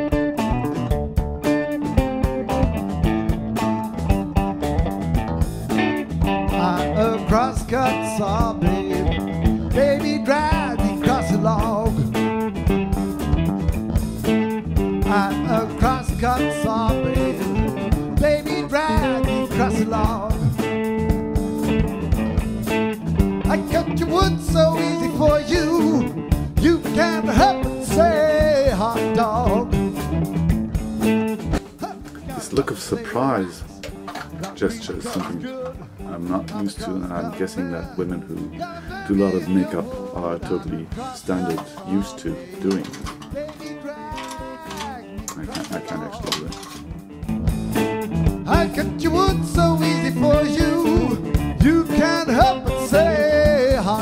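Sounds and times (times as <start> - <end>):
guitar-led blues music: 0.0 - 54.0.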